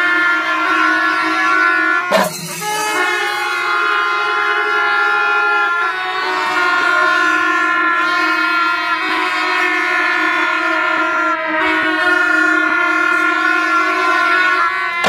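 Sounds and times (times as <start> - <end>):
brass horns and reed pipes chord: 0.0 - 15.0.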